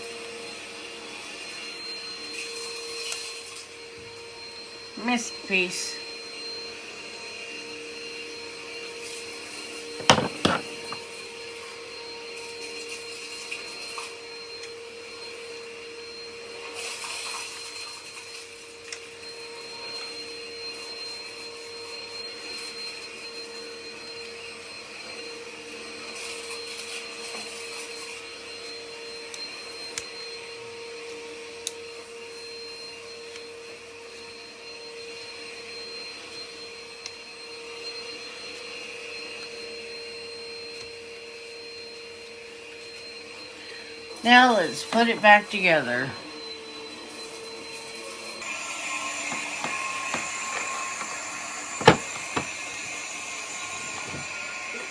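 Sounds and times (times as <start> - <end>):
vacuum cleaner motor whining: 0.0 - 54.9.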